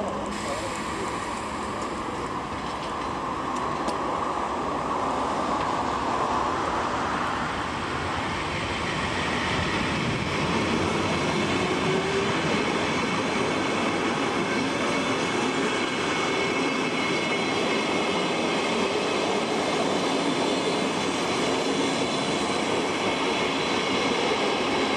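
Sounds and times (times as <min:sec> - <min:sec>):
electric train rumble and rail noise: 0:00.0 - 0:24.9.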